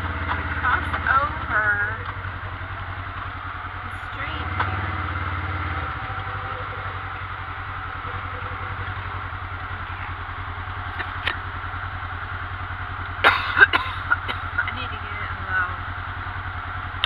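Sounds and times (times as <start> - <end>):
atv engine puttering: 0.0 - 17.0.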